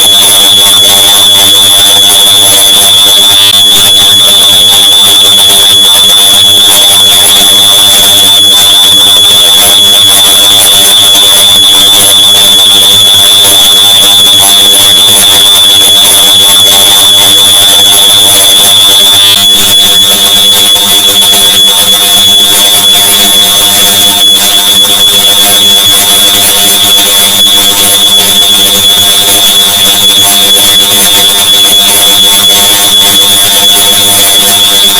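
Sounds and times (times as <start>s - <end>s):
stacked smoke alarm beeps: 0.0s - 34.9s.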